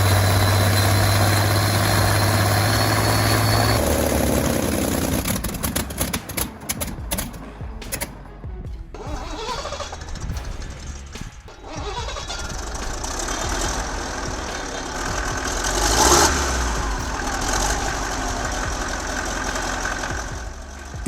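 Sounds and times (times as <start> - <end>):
old engine starting and running: 0.0 - 8.1, 9.0 - 21.0.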